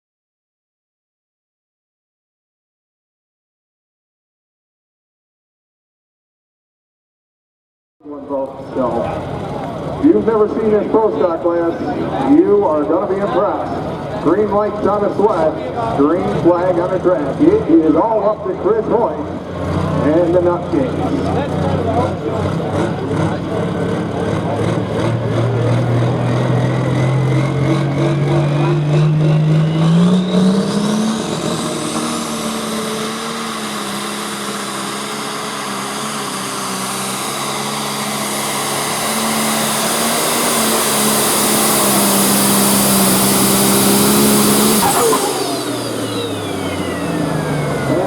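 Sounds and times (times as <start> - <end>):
diesel engine at full throttle: 8.0 - 48.0
high turbo whine: 8.0 - 48.0.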